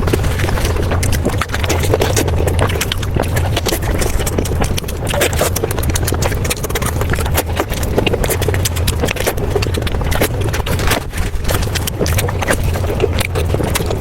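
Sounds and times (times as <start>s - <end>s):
low hum: 0.0s - 14.0s
person chewing: 0.0s - 14.0s.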